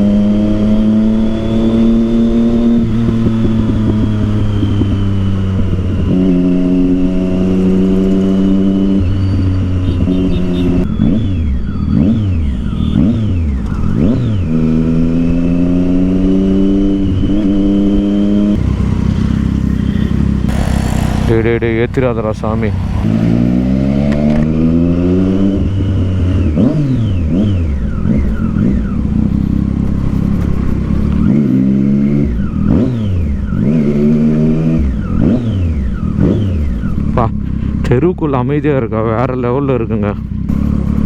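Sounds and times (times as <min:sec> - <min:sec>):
motorcycle engine: 0:00.0 - 0:38.7, 0:40.2 - 0:41.0
motorcycle engine revving: 0:00.0 - 0:41.0.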